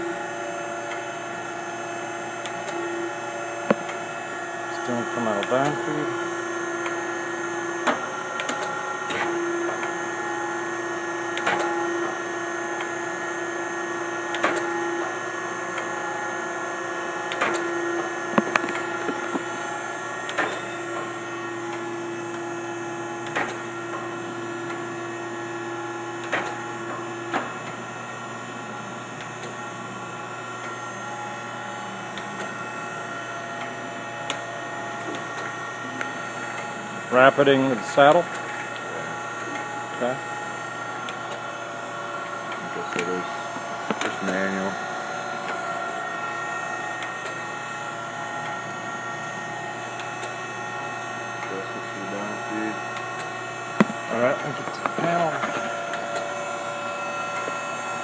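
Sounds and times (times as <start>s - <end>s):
grinder machine hum and whine: 0.0s - 58.0s.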